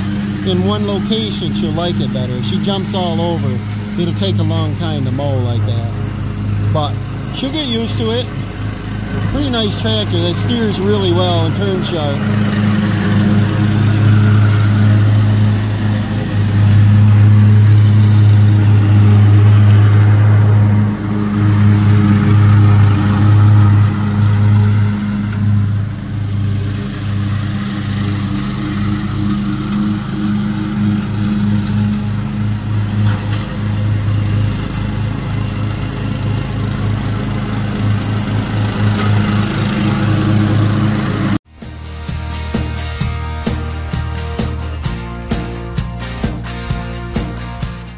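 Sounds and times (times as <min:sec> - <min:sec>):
riding mower engine running: 0:00.0 - 0:47.9.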